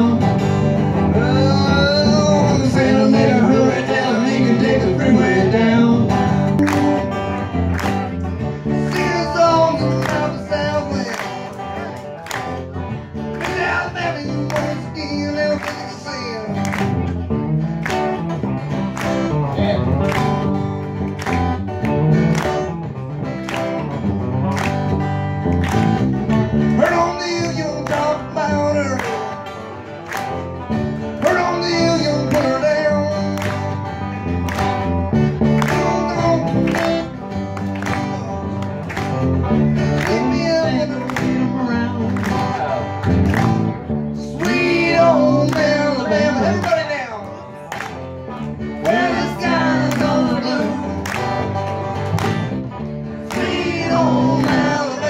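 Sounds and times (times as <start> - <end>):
lead guitar bent notes: 0.0 - 54.8
country band playing: 0.0 - 55.0.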